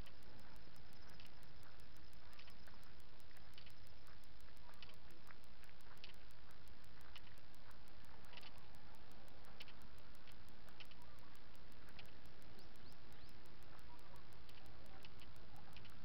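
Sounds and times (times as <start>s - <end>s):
fast high ticking: 0.0s - 16.0s.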